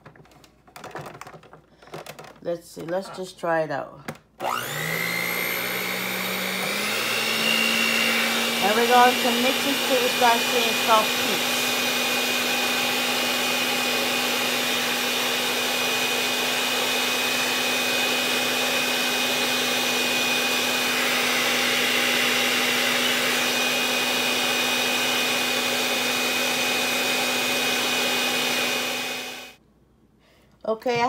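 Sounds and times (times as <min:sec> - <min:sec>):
electric hand mixer whining: 0:04.4 - 0:29.6.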